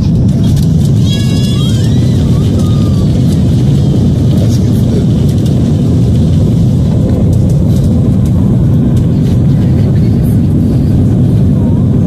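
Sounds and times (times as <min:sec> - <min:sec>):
jet engines and rolling rumble: 0:00.0 - 0:12.0.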